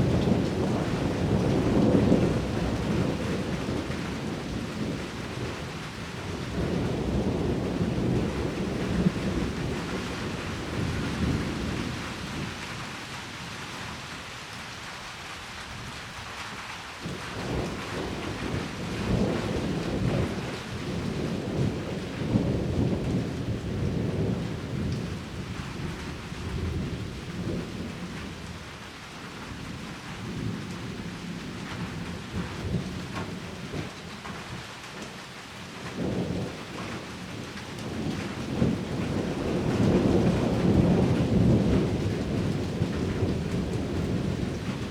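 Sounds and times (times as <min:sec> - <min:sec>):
thunder rumbling: 0:00.0 - 0:13.5, 0:17.0 - 0:28.6, 0:29.5 - 0:34.5, 0:35.8 - 0:44.9
heavy rain pouring: 0:00.0 - 0:44.9.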